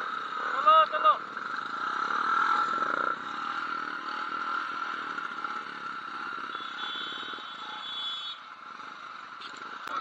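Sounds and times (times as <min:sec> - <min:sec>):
motorcycle engines at low speed: 0:00.0 - 0:10.0
road and wind noise: 0:00.0 - 0:10.0.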